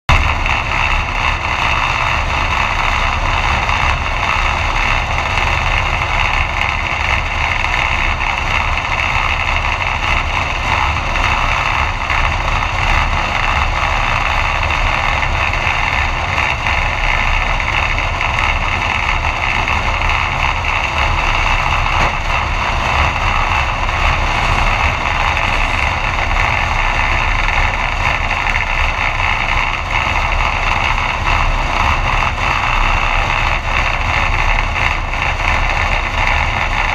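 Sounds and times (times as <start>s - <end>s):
race car engine idling: 0.1s - 36.9s.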